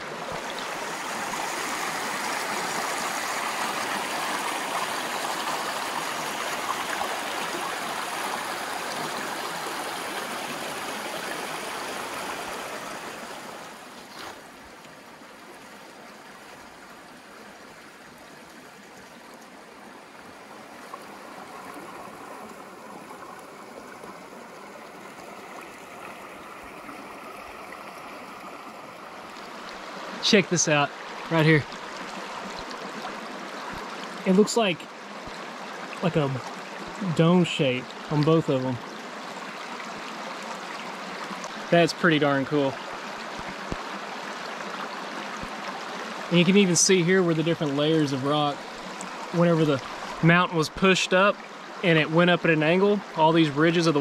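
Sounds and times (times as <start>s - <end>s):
creek rushing over boulders: 0.0s - 54.0s.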